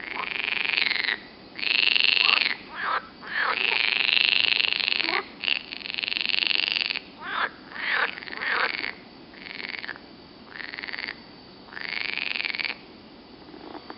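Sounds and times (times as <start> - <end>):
frogs croaking: 0.0 - 13.9.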